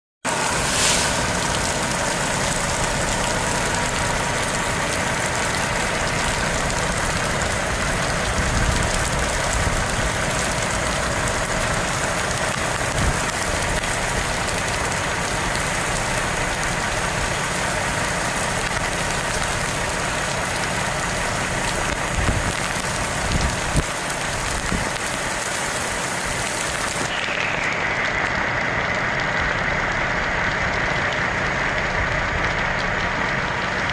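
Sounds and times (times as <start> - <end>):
storm rain and wind hiss: 0.3 - 33.9.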